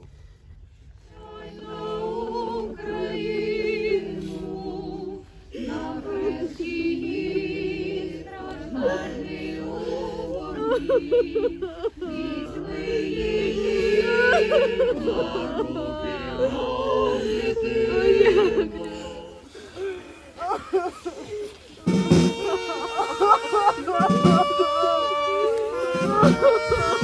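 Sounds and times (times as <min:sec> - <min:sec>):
choir singing unaccompanied: 0:01.0 - 0:27.0.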